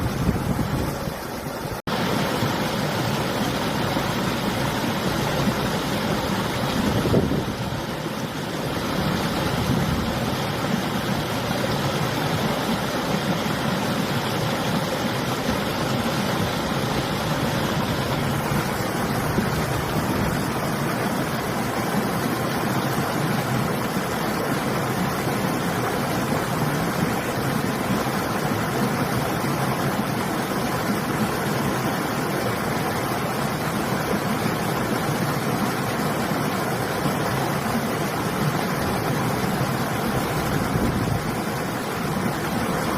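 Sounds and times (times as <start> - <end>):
river water flowing: 0.0 - 42.9
wind: 0.0 - 42.9.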